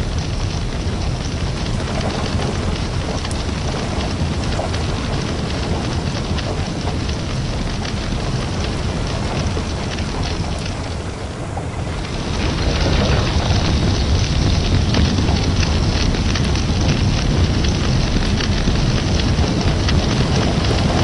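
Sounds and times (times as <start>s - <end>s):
deep rumble: 0.0s - 21.0s
heavy rain hissing: 0.0s - 21.0s.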